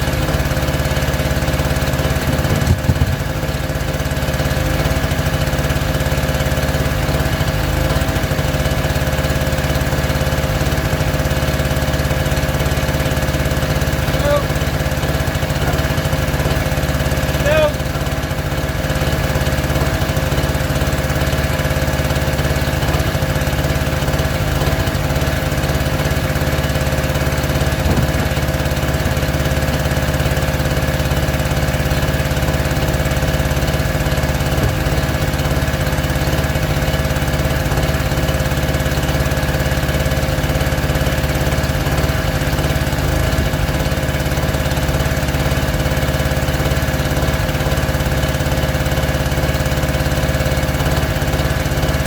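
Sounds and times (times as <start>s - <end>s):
small engine running steadily: 0.0s - 52.0s.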